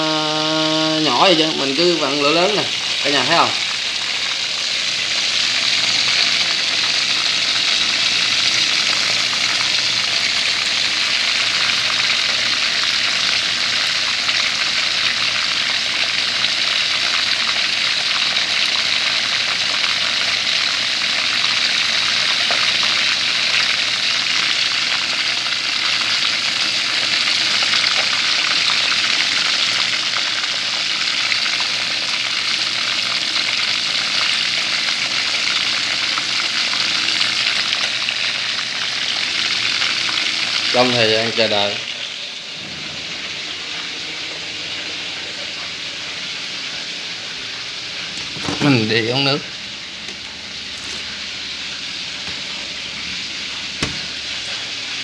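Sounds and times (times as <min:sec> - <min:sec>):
chicken frying in hot oil: 0:00.0 - 0:55.0.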